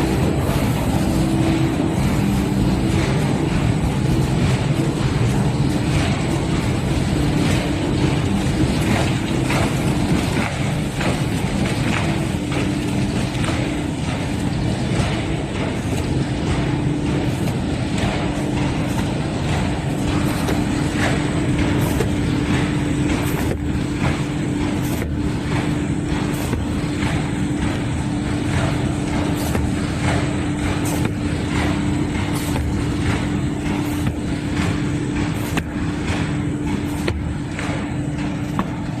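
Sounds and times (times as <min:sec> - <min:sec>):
printing machine drone: 0:00.0 - 0:39.0.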